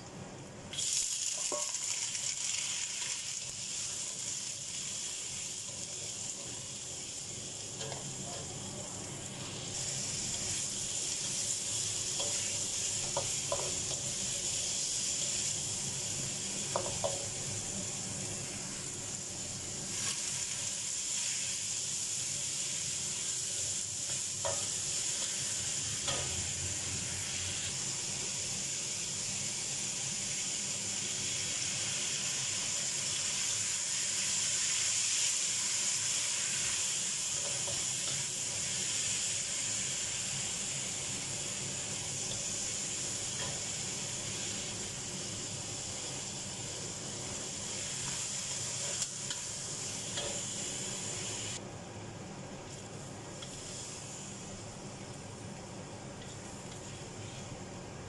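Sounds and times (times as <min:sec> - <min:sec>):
vegetables sizzling in a wok: 0:00.6 - 0:58.0.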